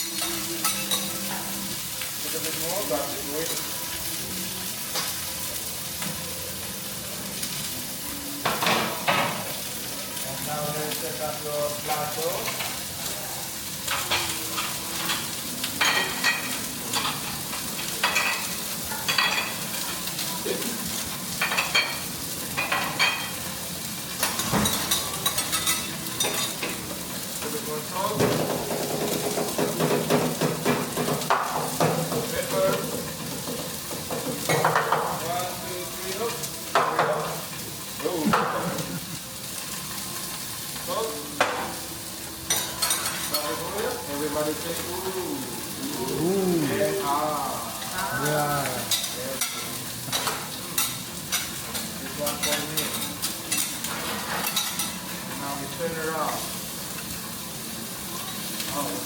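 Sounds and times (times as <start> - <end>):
food sizzling on a griddle: 0.0 - 59.0.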